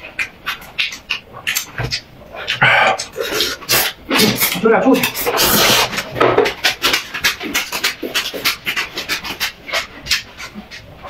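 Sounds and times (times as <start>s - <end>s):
person chewing noodles: 0.0s - 11.0s.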